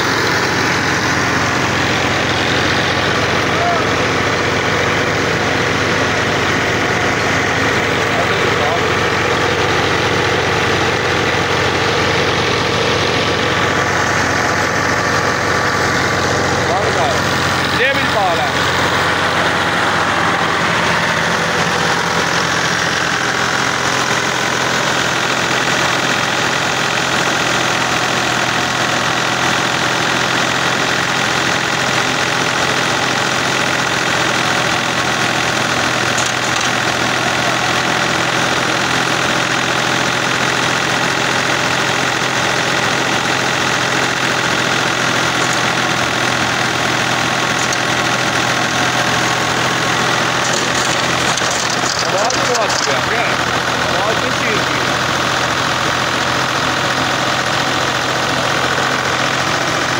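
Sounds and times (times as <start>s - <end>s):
thresher and tractor droning: 0.0s - 59.9s.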